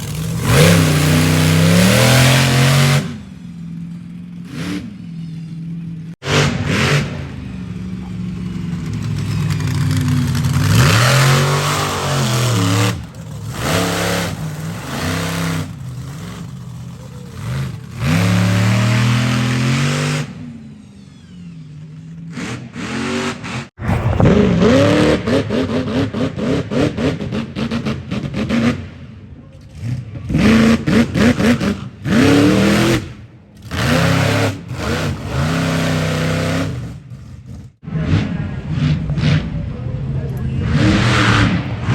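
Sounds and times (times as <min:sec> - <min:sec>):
monster truck engines revving: 0:00.0 - 0:41.9.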